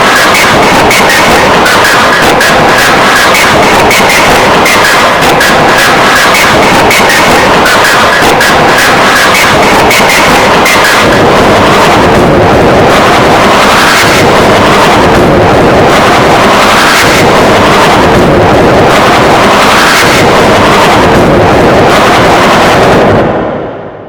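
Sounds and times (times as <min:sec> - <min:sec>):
heavily distorted remix music: 0:00.0 - 0:24.0.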